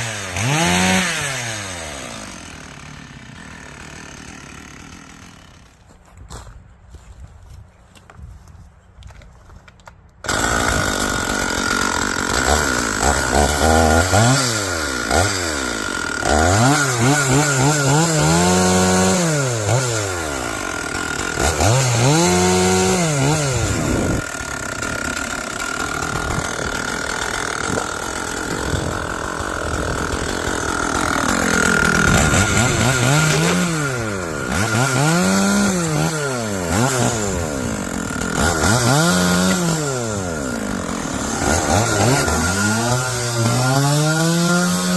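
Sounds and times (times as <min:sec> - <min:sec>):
chainsaw cutting wood: 0:00.0 - 0:07.1, 0:09.1 - 0:44.9.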